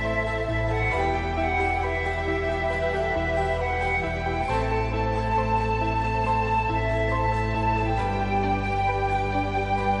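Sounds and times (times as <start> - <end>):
slow soft background music: 0.0 - 10.0.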